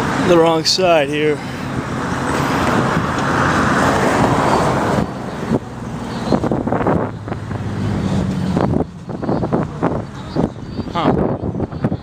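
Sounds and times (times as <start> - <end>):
engine drone of passing traffic: 0.0 - 12.0
motor vehicles running close by: 0.0 - 12.0
wind on microphone: 1.7 - 12.0.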